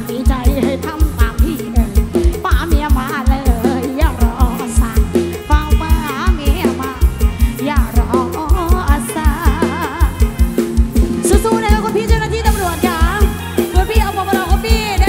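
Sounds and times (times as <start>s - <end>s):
fast heavy kick drum beat: 0.0s - 15.0s.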